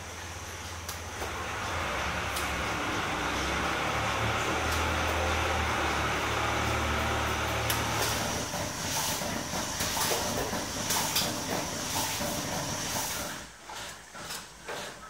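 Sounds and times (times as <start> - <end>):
machinery humming: 0.0 - 13.5
machinery hissing: 1.3 - 13.5.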